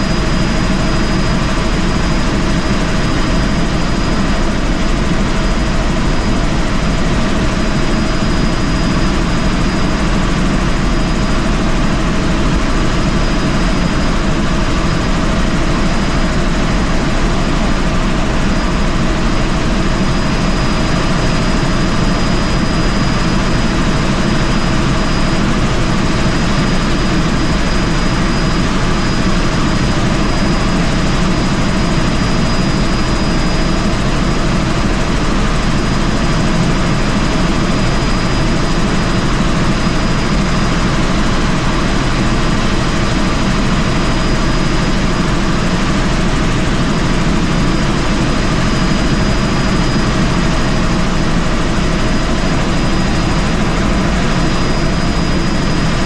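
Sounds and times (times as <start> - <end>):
helicopter rotor and engine drone: 0.0 - 56.0
high steady whine: 0.0 - 56.0.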